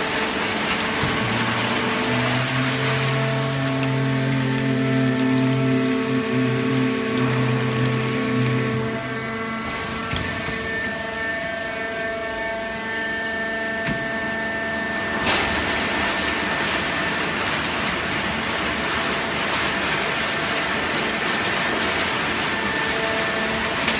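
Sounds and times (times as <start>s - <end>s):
hydraulic drive humming and whining: 0.0s - 23.9s.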